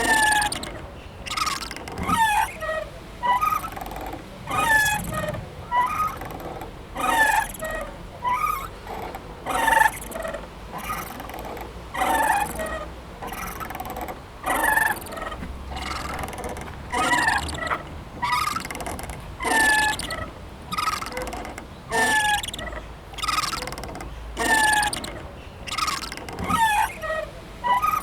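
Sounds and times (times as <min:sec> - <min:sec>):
swing chains squeaking: 0:00.0 - 0:28.0.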